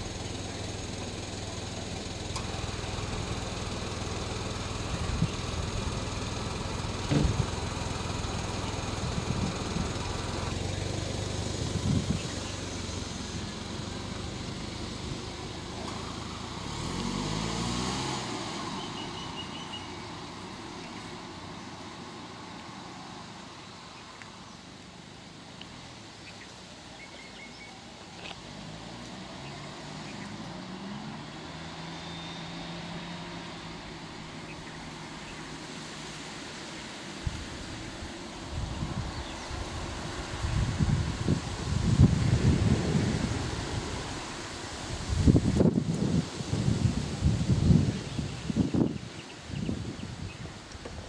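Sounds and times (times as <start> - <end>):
car engine idling: 0.0 - 48.8
car pulling away: 0.0 - 51.0.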